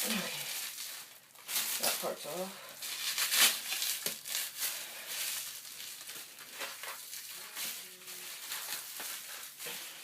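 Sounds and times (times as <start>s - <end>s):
plastic wrapping rustling and crinkling: 0.0s - 10.0s.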